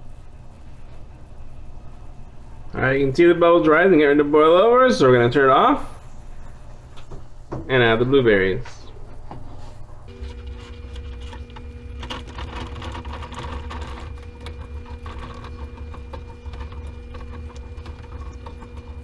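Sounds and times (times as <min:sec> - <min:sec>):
electrical motor hum: 0:00.0 - 0:19.0.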